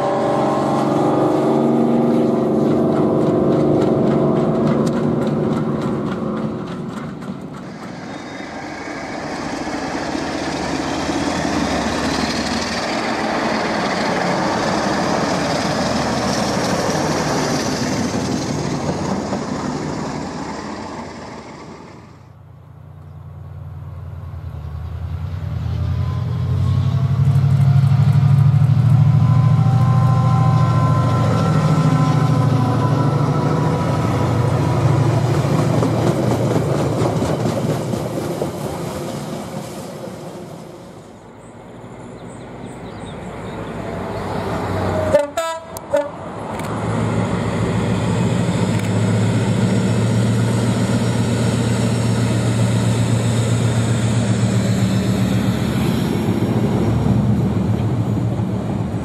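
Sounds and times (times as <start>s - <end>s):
diesel locomotive engine: 0.0s - 59.0s.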